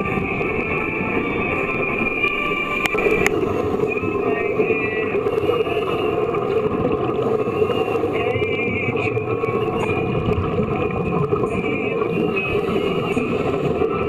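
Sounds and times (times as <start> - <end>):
thin high whine: 0.0 - 14.0
underwater bubbles rumbling: 0.0 - 14.0.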